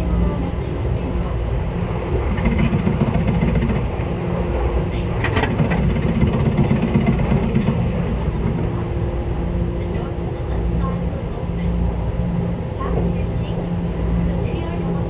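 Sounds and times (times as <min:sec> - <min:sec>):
train wheels and motors rumbling: 0:00.0 - 0:15.0.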